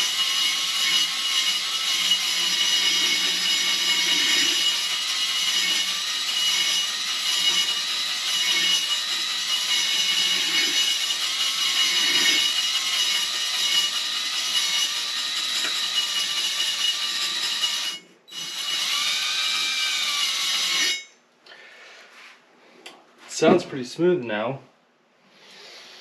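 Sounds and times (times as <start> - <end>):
electric drill whining: 0.0 - 21.1.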